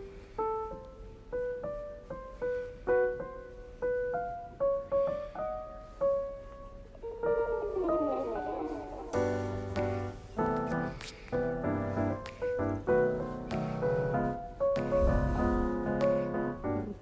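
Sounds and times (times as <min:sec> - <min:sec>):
keyboard playing simple melody: 0:00.0 - 0:17.0.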